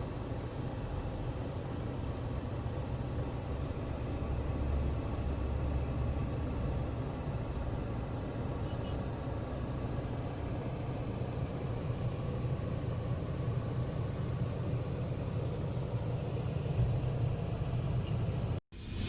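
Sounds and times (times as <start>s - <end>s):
diesel truck low rumble: 0.0s - 19.0s.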